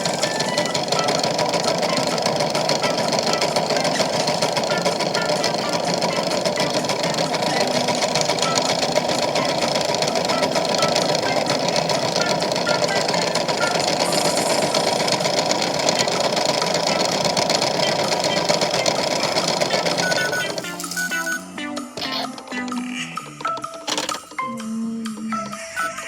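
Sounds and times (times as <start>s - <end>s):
small motor with fast rattle: 0.0s - 21.4s.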